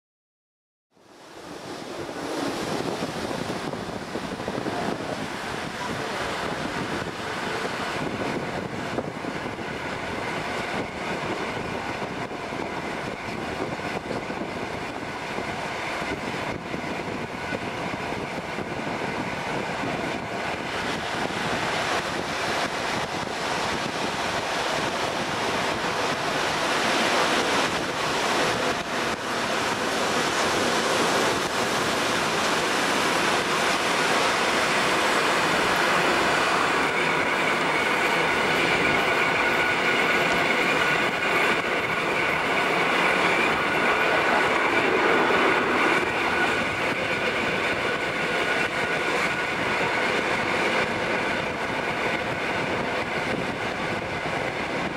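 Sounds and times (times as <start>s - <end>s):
train running on rails: 1.0s - 54.9s
wind rushing on microphone: 1.0s - 54.9s.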